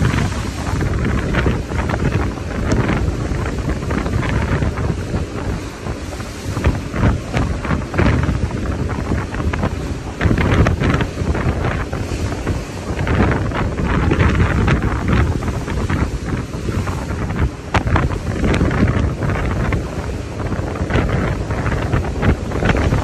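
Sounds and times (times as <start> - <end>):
waves breaking at sea: 0.0 - 23.0
wind buffeting microphone: 0.0 - 23.0.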